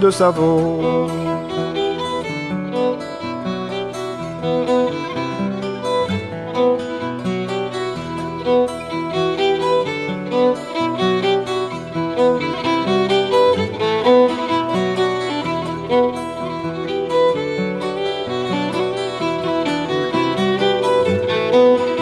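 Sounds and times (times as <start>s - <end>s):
instrumental music with steady beat: 0.0s - 22.0s.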